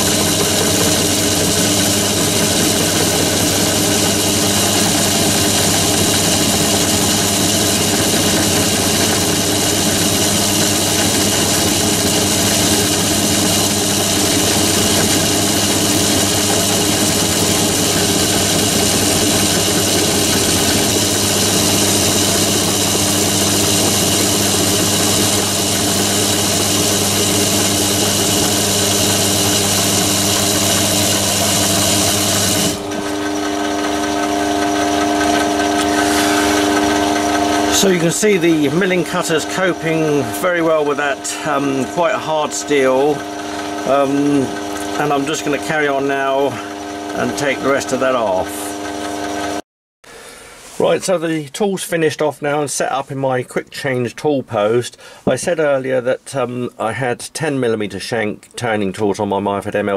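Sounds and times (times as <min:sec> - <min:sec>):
lathe motor whine: 0:00.0 - 0:49.6
milling cutter cutting steel: 0:00.0 - 0:49.6.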